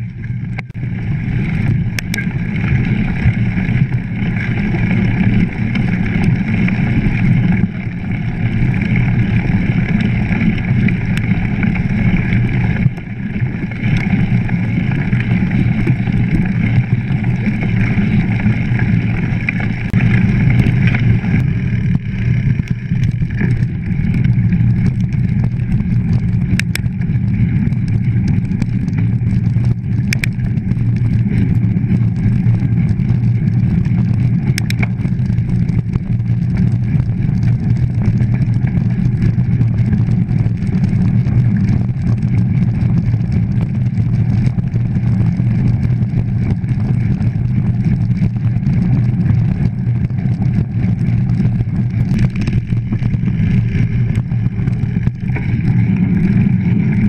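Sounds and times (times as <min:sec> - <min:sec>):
bike rattling over bumps: 0:00.0 - 0:57.0
tyres rolling on gravel: 0:00.8 - 0:57.0.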